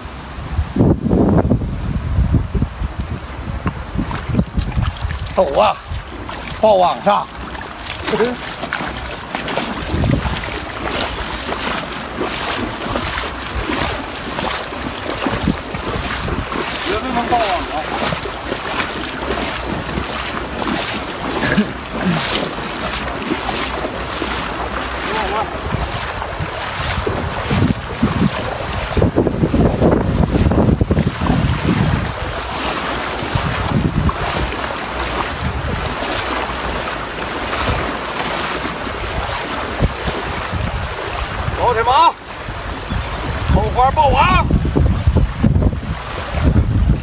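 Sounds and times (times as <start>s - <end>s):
flowing river water: 0.0s - 0.8s, 1.4s - 47.0s
wind buffeting microphone: 0.0s - 47.0s
feet splashing in water: 3.2s - 47.0s.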